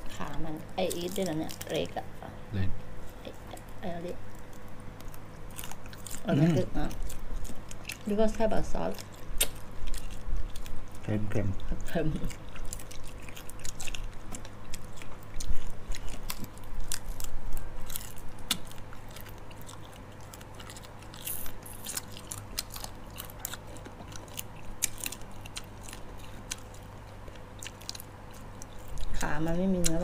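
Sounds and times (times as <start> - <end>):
chewing and crunching shells: 3.5 - 30.0.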